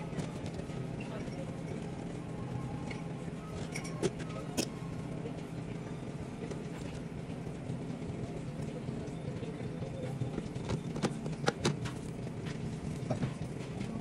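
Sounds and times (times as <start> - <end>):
restaurant background noise: 0.0 - 14.0.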